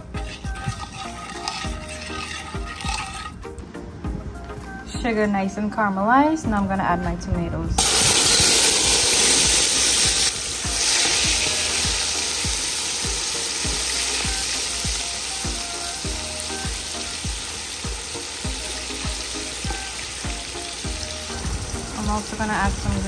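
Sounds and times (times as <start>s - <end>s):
tomatoes sizzling in hot oil: 0.0s - 3.5s, 7.8s - 23.0s.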